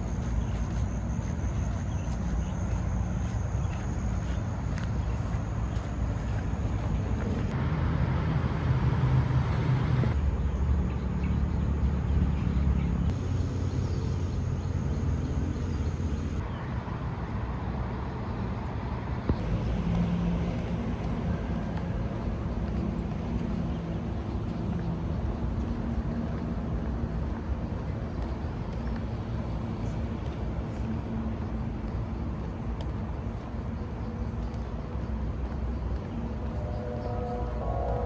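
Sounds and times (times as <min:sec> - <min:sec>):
distant traffic rumble: 0:00.0 - 0:38.0.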